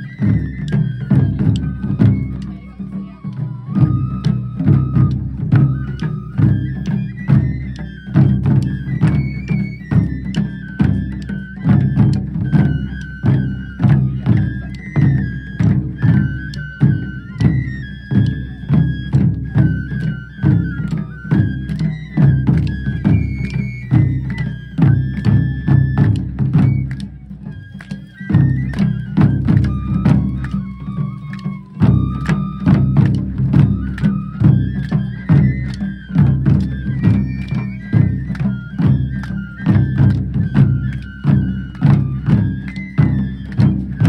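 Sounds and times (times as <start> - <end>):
taiko drums: 0.0 - 44.0.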